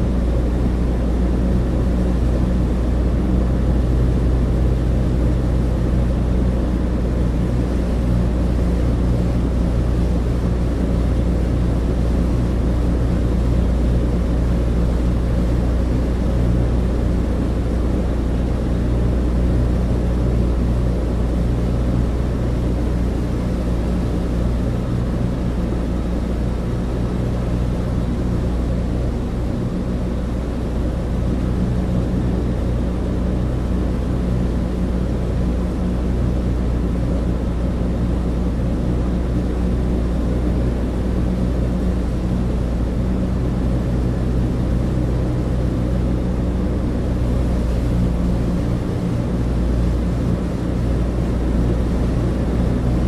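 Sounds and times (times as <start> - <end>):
propeller airplane engines droning: 0.0 - 53.0.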